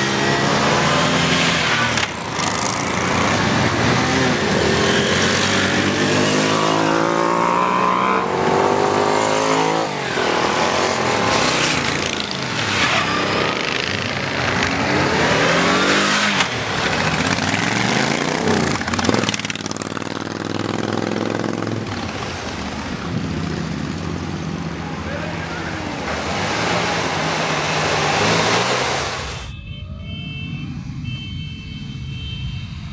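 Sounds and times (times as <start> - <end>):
motorcycles passing by: 0.0 - 29.5.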